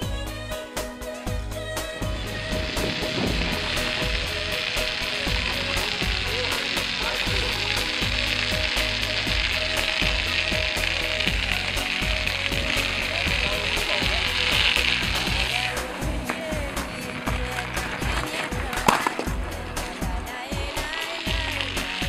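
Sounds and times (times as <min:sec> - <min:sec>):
bicycle tyres rolling over ice: 0:02.1 - 0:22.0.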